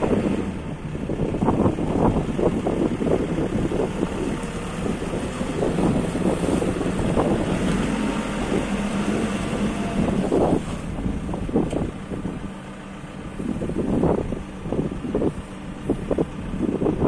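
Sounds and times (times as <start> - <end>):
backhoe engine running: 0.0 - 17.0
wind buffeting microphone: 0.0 - 17.0.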